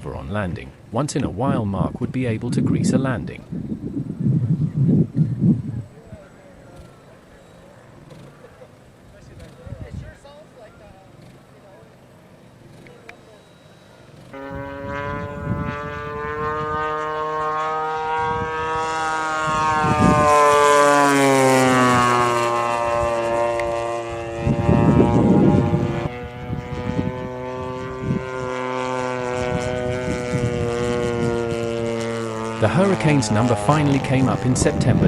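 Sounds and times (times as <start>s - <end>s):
model plane engine passing: 2.0s - 35.0s.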